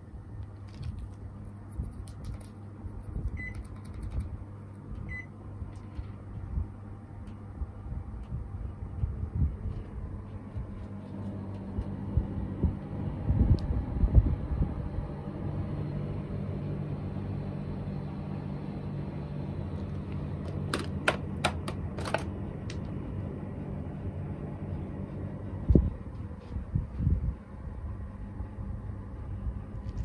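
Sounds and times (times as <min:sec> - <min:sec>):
air conditioner fan hum: 0:00.0 - 0:30.0.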